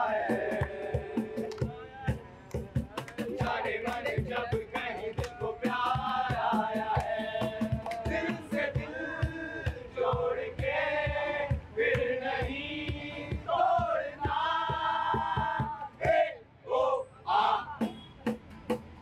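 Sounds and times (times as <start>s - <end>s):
young men singing together: 0.0s - 1.7s, 3.2s - 17.9s
cajon beat: 0.0s - 16.3s, 17.7s - 19.0s.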